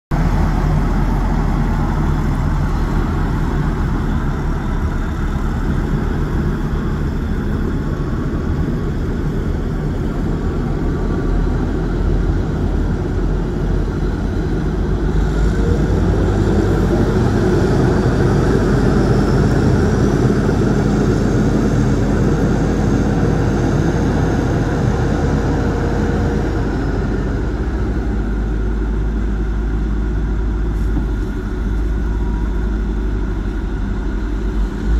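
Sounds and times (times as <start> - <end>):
diesel engine running: 0.1 - 34.9
high hydraulic whine: 0.1 - 34.9.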